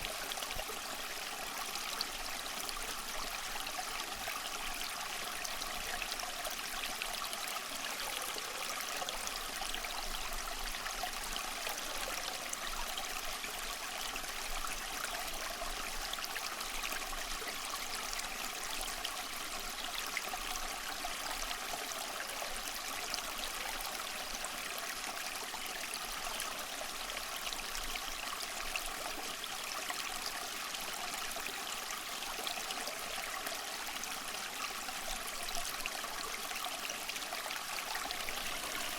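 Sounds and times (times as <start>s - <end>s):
fountain water trickling: 0.0s - 38.9s.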